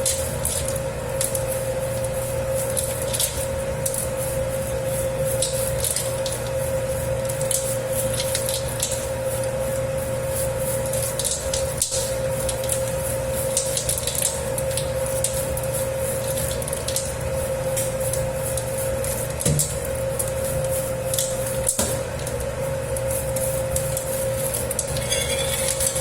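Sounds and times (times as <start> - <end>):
dough slapping and squishing: 0.0 - 24.9
motor hum with whine: 0.0 - 26.0.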